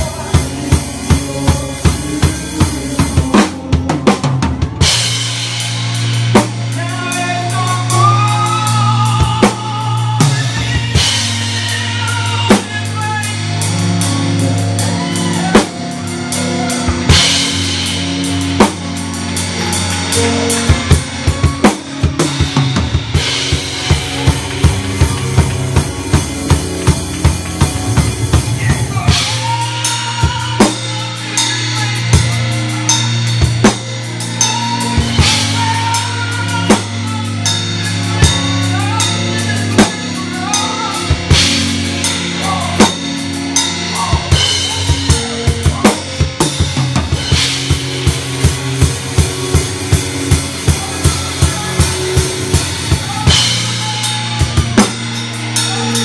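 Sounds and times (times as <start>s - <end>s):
bass line and chords: 0.0s - 56.0s
drum kit playing: 0.0s - 56.0s.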